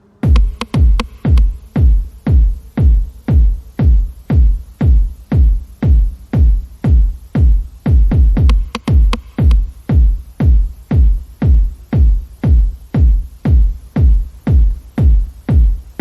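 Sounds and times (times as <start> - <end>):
electronic music with deep kick drum: 0.0 - 16.0.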